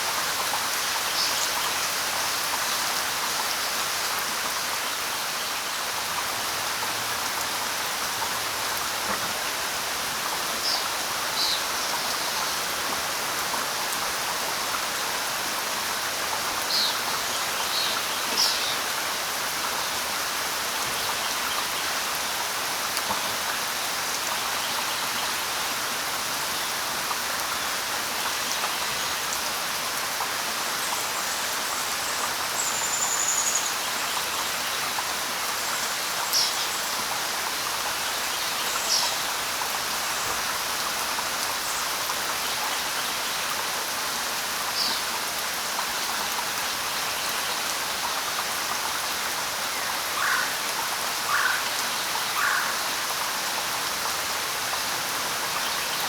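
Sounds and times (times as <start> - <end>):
light rain hissing on leaves: 0.0 - 56.0.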